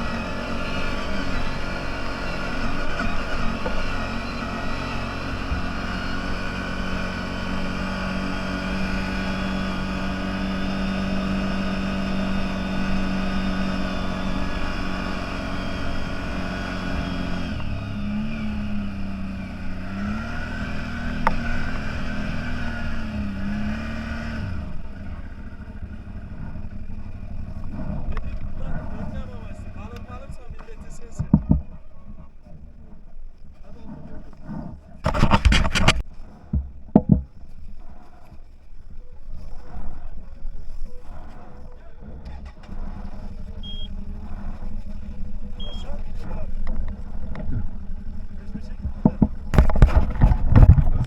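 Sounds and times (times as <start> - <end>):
off-road vehicle engine revving: 0.0 - 51.0.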